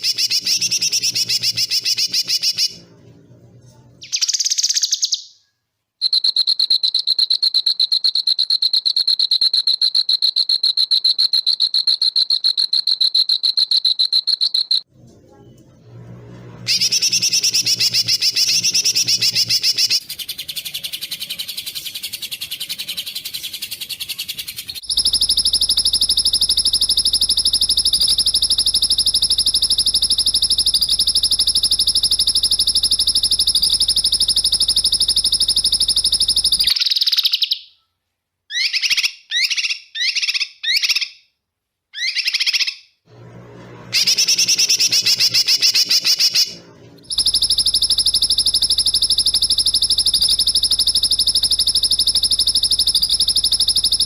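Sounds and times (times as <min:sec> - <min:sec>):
bird chirps: 0:00.0 - 0:02.9, 0:04.0 - 0:14.8, 0:16.7 - 0:41.3, 0:42.0 - 0:42.9, 0:44.0 - 0:54.0.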